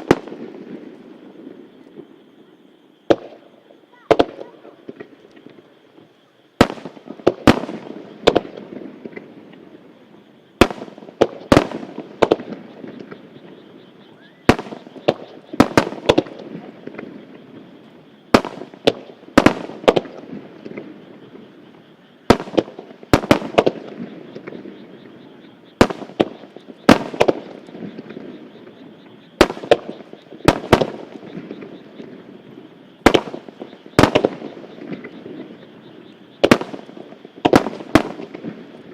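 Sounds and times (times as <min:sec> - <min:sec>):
fireworks rumble: 0:00.0 - 0:38.9.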